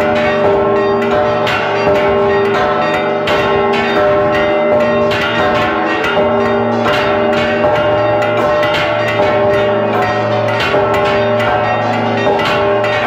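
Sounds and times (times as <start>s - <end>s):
church bells ringing rapidly: 0.0s - 13.0s.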